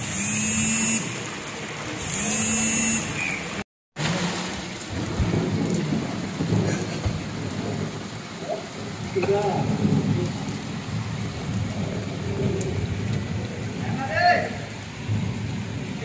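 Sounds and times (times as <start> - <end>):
heavy rain on water: 0.0 - 16.0.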